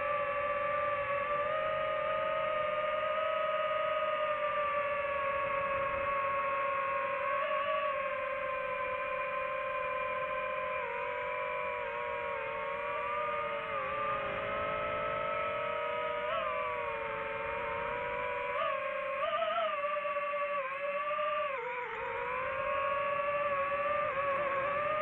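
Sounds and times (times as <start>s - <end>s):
drone propellers whining: 0.0s - 25.0s.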